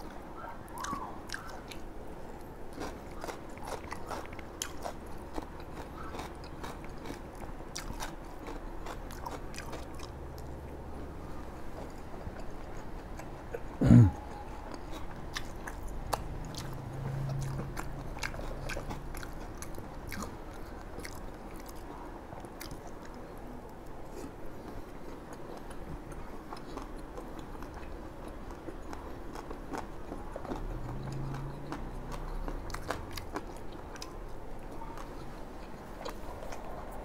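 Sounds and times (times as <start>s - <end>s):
chewing crisp food: 0.0s - 37.0s.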